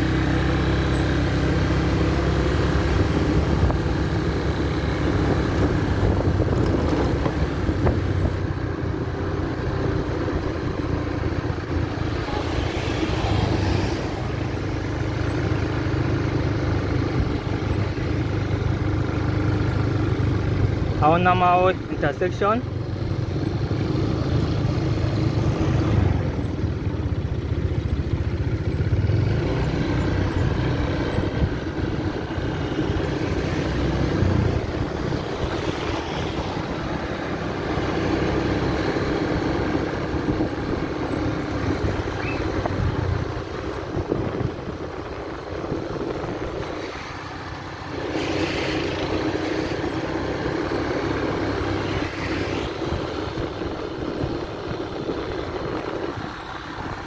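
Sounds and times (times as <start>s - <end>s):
motor scooter rumbling: 0.0s - 57.0s.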